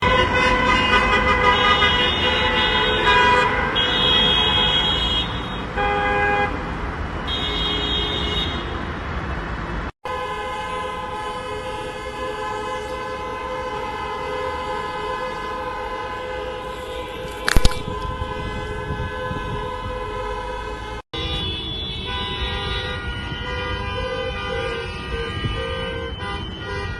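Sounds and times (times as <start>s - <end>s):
car horns honking: 0.0s - 8.8s, 10.0s - 26.9s.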